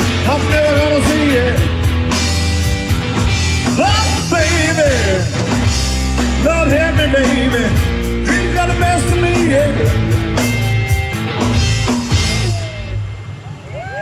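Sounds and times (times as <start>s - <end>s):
bass guitar: 0.0s - 13.4s
drums: 0.0s - 14.0s
electric guitar: 0.0s - 14.0s.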